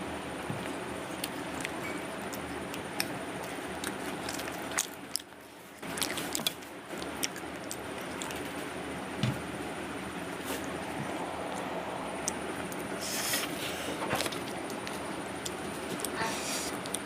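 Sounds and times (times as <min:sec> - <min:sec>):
person chewing food: 0:00.6 - 0:08.9, 0:10.6 - 0:17.0.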